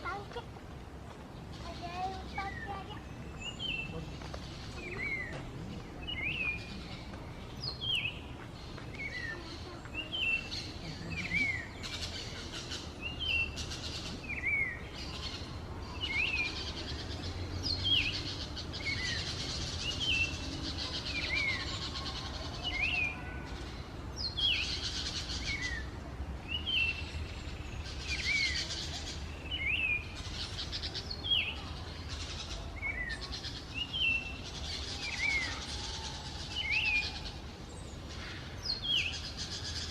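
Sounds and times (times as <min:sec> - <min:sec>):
songbird calling: 0:01.3 - 0:39.9.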